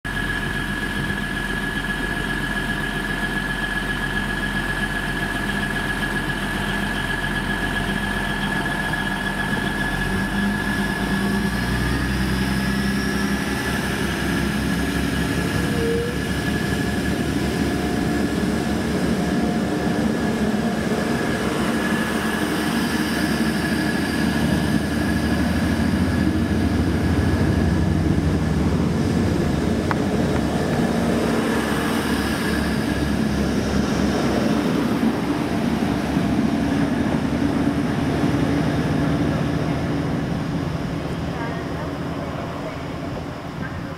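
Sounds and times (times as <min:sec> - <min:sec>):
diesel train pulling away: 0:00.0 - 0:43.9
train coaches rumbling past: 0:00.1 - 0:43.9.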